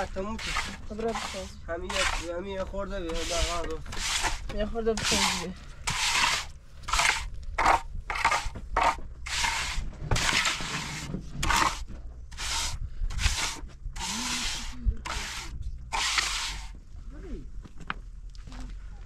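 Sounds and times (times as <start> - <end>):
trowel scraping wet cement: 0.0 - 16.8.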